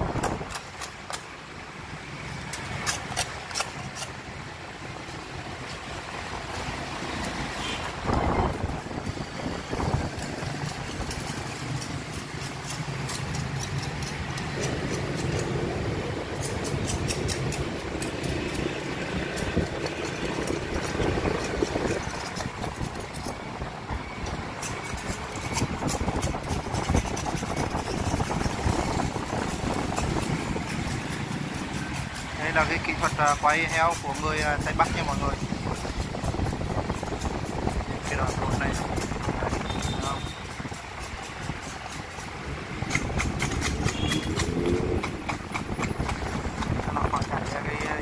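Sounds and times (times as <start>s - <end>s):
motorbike engines: 0.0s - 48.0s.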